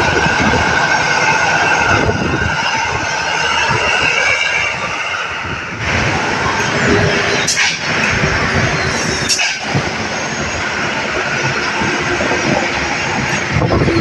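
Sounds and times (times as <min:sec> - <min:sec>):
traffic roar: 0:00.0 - 0:14.0.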